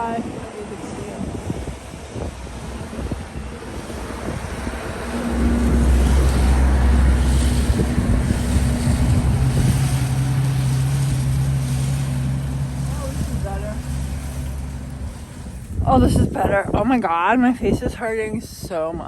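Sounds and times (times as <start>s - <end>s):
truck engine droning: 0.0s - 16.6s
wind on microphone: 0.0s - 19.0s.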